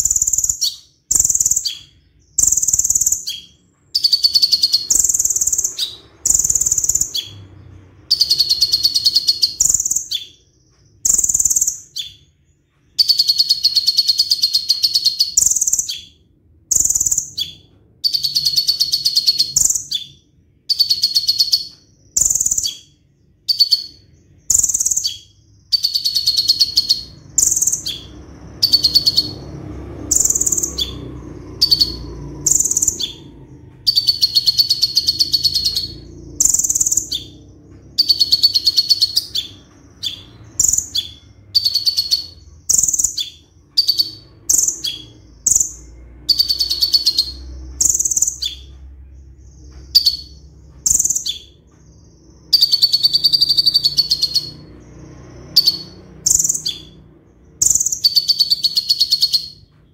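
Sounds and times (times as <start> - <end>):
sunbird singing trills: 0.0 - 59.9.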